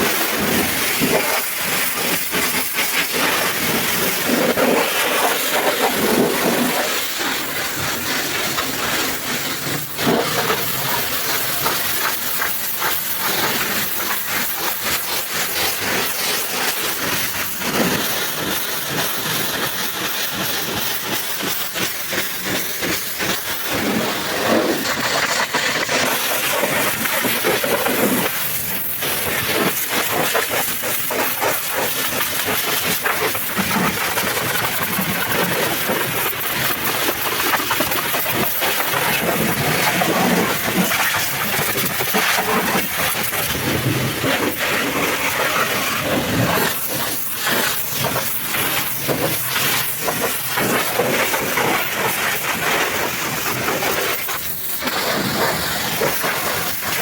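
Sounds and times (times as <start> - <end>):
pressure washer spraying: 0.0 - 57.0.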